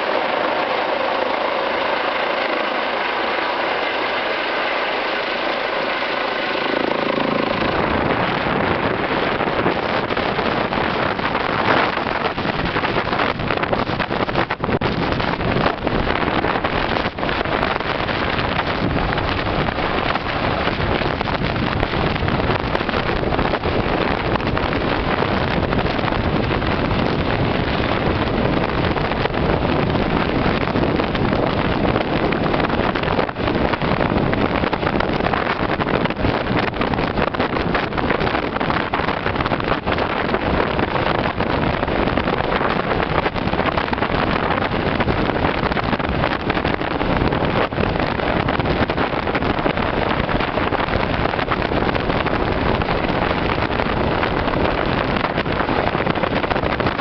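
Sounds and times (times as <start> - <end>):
helicopter hovering: 0.0 - 57.0
rotor downwash buffeting microphone: 0.0 - 57.0.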